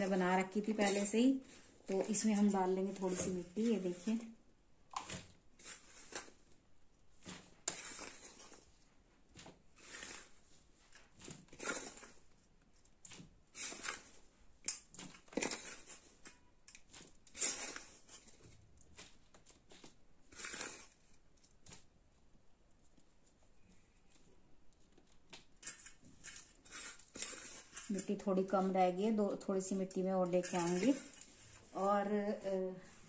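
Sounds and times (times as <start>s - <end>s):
soil scraping in steel bowl: 0.0s - 6.5s, 7.2s - 8.8s, 9.5s - 21.2s, 25.6s - 33.0s.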